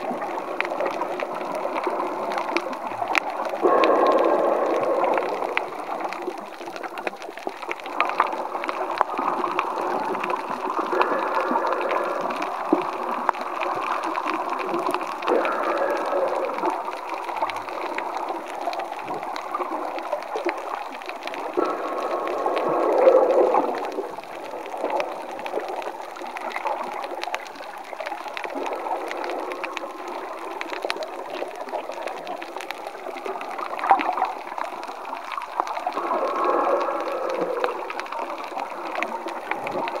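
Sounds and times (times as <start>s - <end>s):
faint clicks: 0.0s - 40.0s
water sloshing and gurgling: 0.0s - 40.0s.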